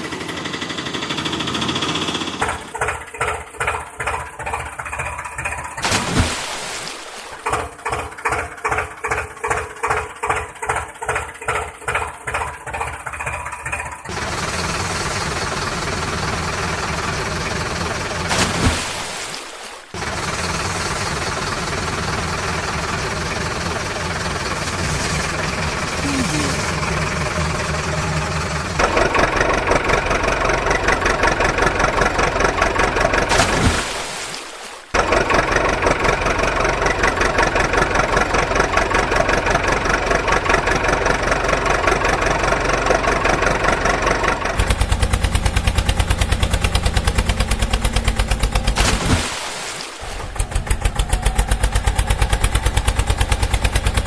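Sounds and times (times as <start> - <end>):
engine low rumble: 0.0 - 6.2, 7.3 - 34.1, 34.9 - 49.2, 50.0 - 54.0.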